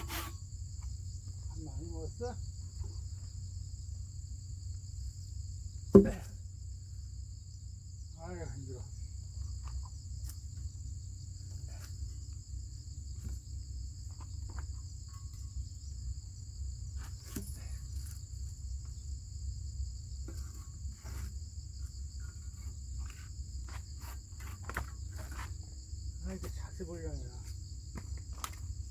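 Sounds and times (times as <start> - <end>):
constant low rumble: 0.0 - 28.9
crickets chirring: 0.0 - 28.9.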